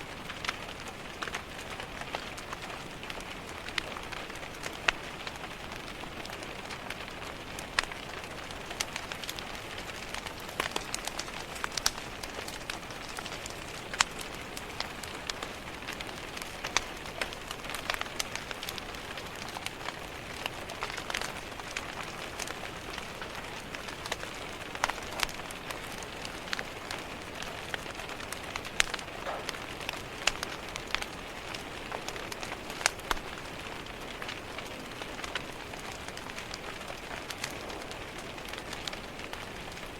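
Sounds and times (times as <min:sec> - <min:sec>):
open fire crackling: 0:00.0 - 0:39.9
steady rain hiss: 0:00.0 - 0:39.9.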